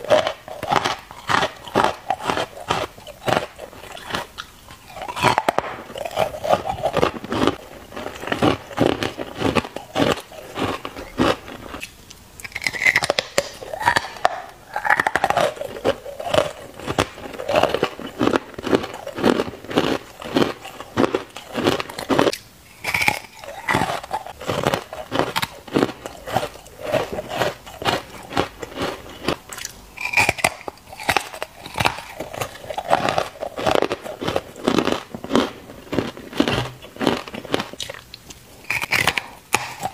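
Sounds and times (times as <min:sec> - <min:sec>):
ice crunching in mouth: 0:00.0 - 0:39.9.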